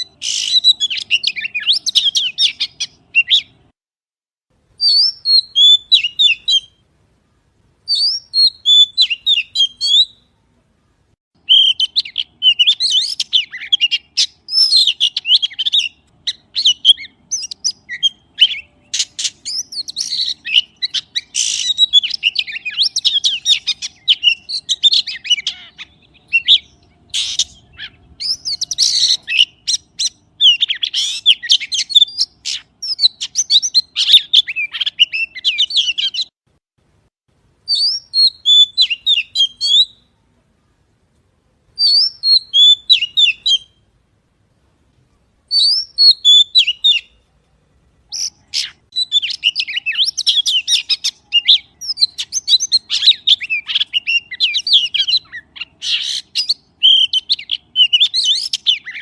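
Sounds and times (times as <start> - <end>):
magpie chirping and warbling: 0.0 - 3.6, 4.8 - 6.8, 7.9 - 10.2, 11.4 - 36.3, 37.7 - 40.1, 41.8 - 43.8, 45.5 - 47.2, 48.1 - 59.0.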